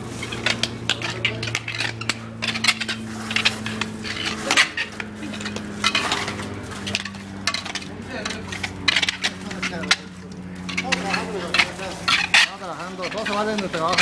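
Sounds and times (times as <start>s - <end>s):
metal tools clinking and scraping: 0.0s - 14.0s
steady motor hum: 0.0s - 14.0s.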